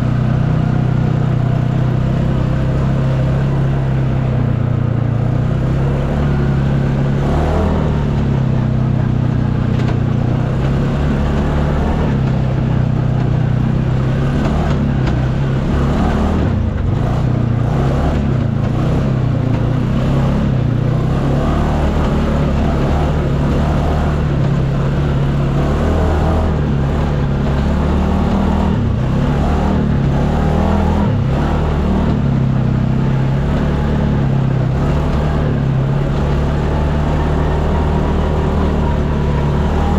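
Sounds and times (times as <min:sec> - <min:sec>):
rough ride noise: 0:00.0 - 0:39.9
utv engine droning: 0:00.0 - 0:39.9.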